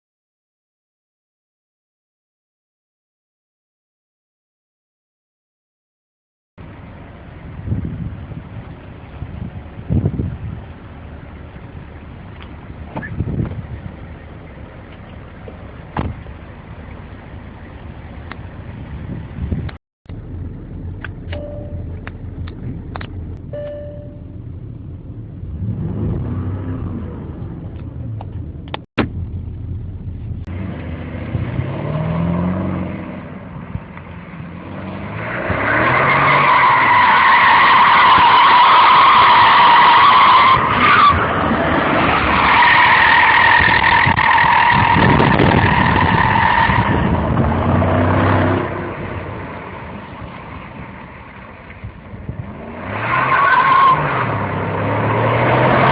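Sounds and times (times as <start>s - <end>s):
car engine accelerating: 6.6s - 55.9s.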